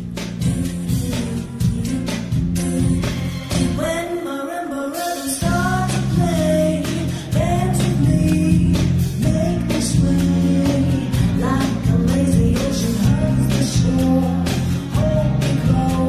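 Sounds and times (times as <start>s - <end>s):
salsa song with singing: 0.8s - 16.0s.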